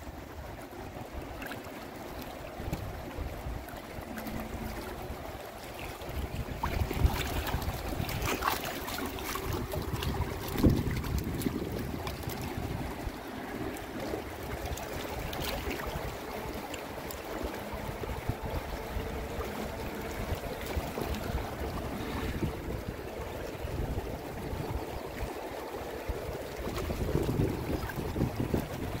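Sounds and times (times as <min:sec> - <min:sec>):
river water rushing: 0:00.0 - 0:29.0
wind rumble on microphone: 0:02.4 - 0:29.0.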